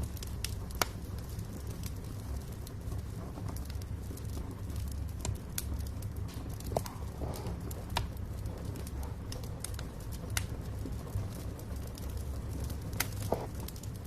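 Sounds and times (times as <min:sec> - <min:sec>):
burning logs crackling and popping: 0:00.0 - 0:14.0
low rumble of flames: 0:00.0 - 0:14.0.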